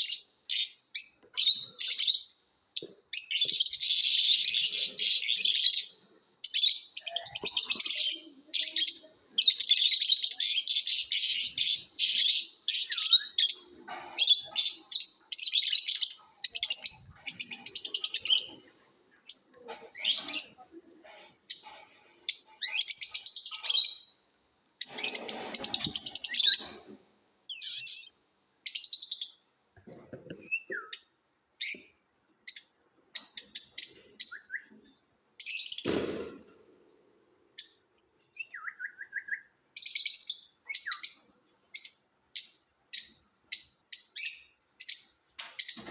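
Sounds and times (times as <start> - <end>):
lovebirds chattering and chirping: 0.0 - 24.2, 24.8 - 36.0, 37.6 - 45.9.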